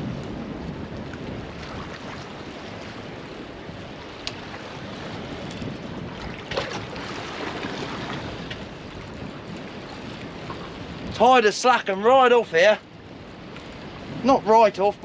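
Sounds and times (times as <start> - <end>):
sea: 0.0 - 15.0
wind buffeting microphone: 0.0 - 15.0.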